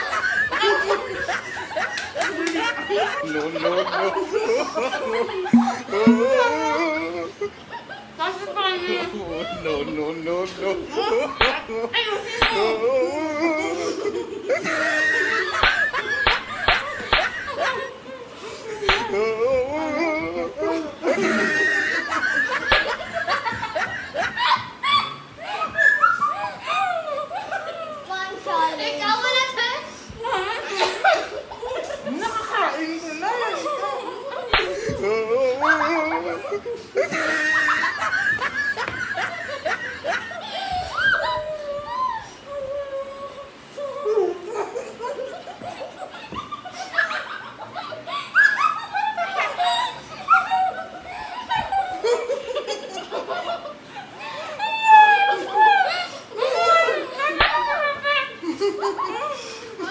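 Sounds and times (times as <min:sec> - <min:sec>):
girls laughing and giggling: 0:00.0 - 0:59.9.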